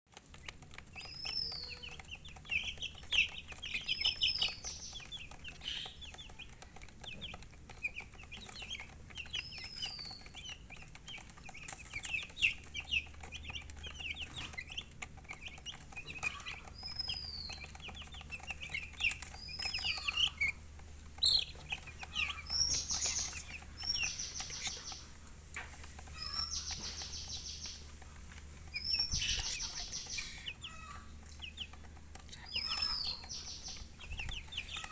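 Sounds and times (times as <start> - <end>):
baby chicks chirping: 0.1 - 34.9
chicken clucking: 0.2 - 34.9.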